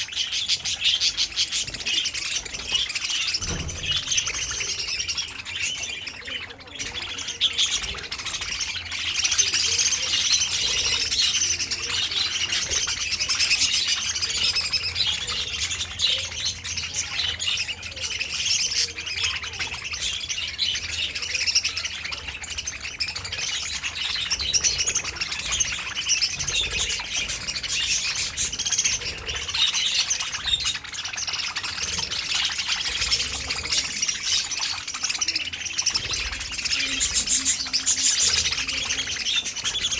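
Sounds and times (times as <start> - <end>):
budgies chattering and chirping: 0.0 - 39.9.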